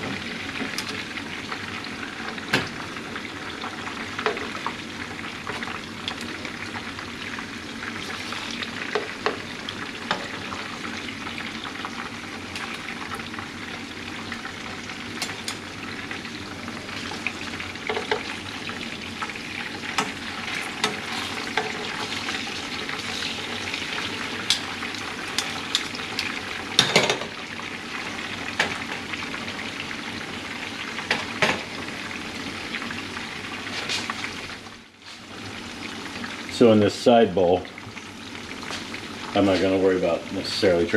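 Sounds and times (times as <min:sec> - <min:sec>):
fish fillets sizzling in a pan: 0:00.0 - 0:36.8, 0:37.7 - 0:40.9.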